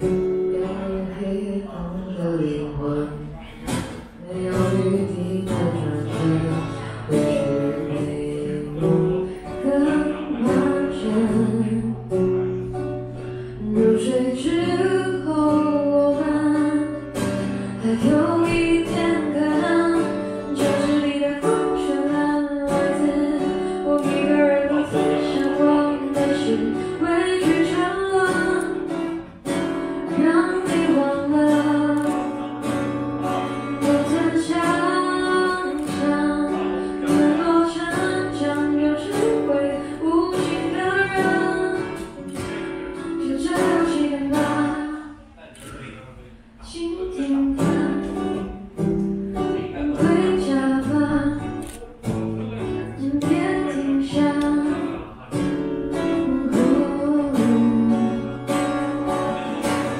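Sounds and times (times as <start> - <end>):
woman singing: 0.0 - 45.2, 46.6 - 51.9, 52.8 - 55.1, 55.9 - 59.9
strummed acoustic guitar: 0.0 - 59.9.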